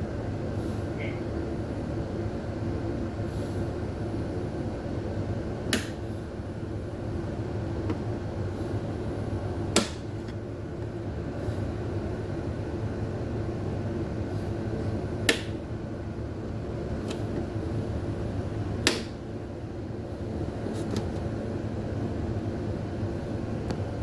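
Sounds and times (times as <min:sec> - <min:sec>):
refrigerator compressor humming: 0:00.0 - 0:24.0.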